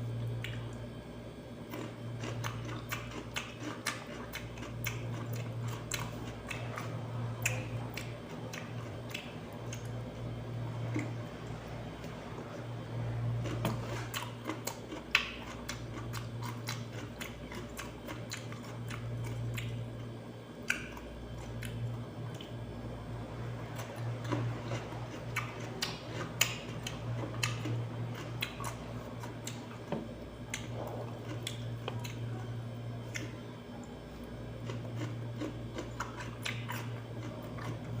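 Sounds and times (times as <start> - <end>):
steady low hum: 0.0 - 38.0
chewing cucumber crunches: 0.1 - 0.9, 1.6 - 12.6, 13.2 - 22.6, 23.7 - 33.4, 34.2 - 38.0.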